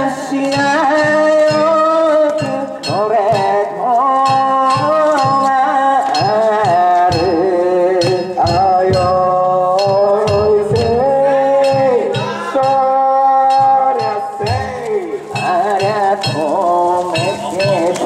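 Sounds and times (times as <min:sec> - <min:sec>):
drum strikes: 0:00.5 - 0:18.0.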